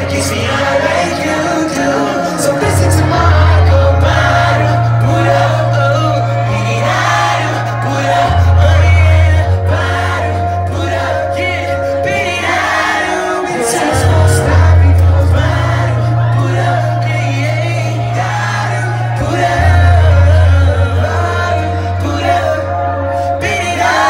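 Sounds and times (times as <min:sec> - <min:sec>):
heavy bass line: 0:00.0 - 0:24.0
people singing into microphones: 0:00.0 - 0:24.0.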